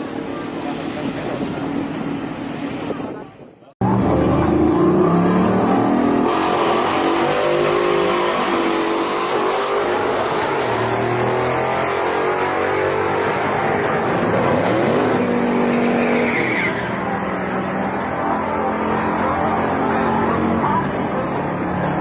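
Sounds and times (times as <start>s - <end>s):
drag racing cars accelerating: 3.8s - 22.0s.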